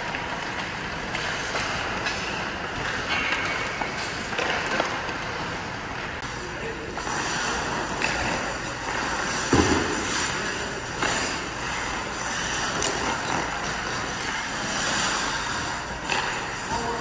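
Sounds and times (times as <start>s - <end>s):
stick and puck clacks: 0.0s - 6.3s, 6.9s - 17.0s
skates scraping on ice: 0.0s - 17.0s.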